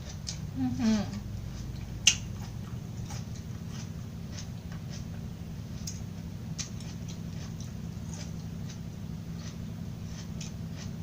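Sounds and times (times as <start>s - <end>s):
chewing crunchy vegetables: 0.0s - 11.0s
steady low hum: 0.0s - 11.0s.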